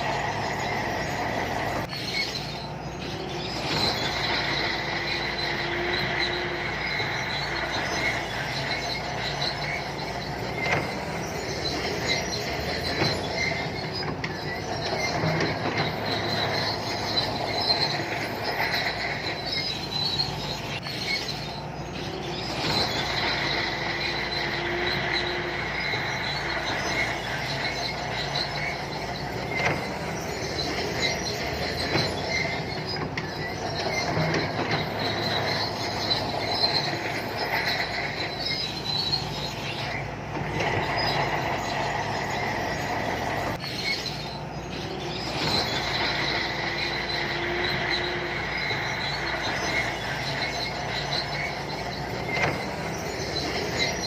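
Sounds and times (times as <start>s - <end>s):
diesel engine running: 0.0s - 54.0s
steel tracks squealing and clattering: 0.0s - 54.0s.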